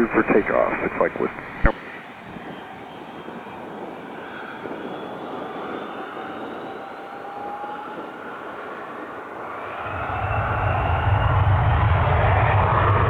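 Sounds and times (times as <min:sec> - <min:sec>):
airplane engine running: 0:00.0 - 0:13.0
faint engine whine: 0:00.0 - 0:13.0.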